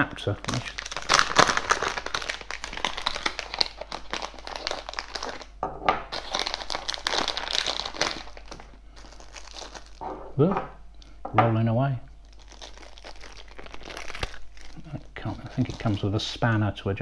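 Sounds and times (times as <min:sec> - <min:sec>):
plastic bag crinkling: 0:00.0 - 0:10.5, 0:12.2 - 0:16.6.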